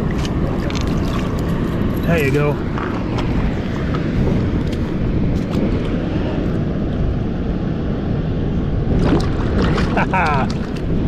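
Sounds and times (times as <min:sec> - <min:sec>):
rushing river water: 0:00.0 - 0:07.2, 0:08.8 - 0:11.0
wind: 0:00.0 - 0:11.0.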